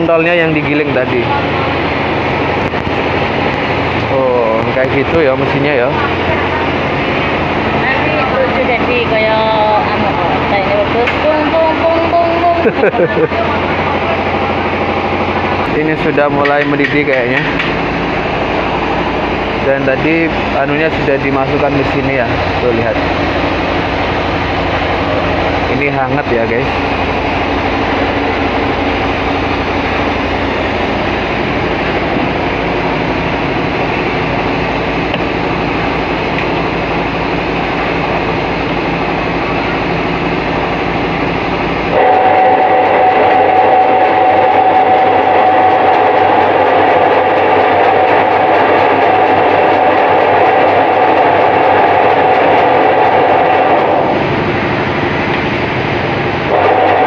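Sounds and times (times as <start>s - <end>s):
machine motor whirring: 0.0s - 57.0s.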